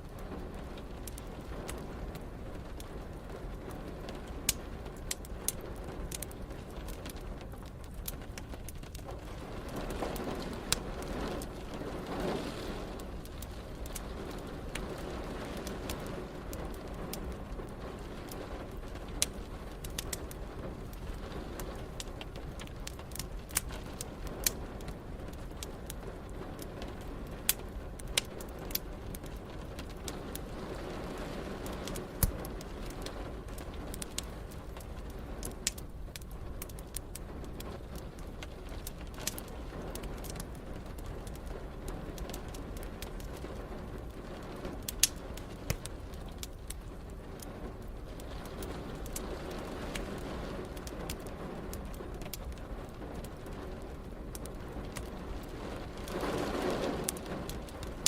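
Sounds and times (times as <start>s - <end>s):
rain hiss: 0.0s - 58.0s
wood fire crackling: 0.0s - 58.0s.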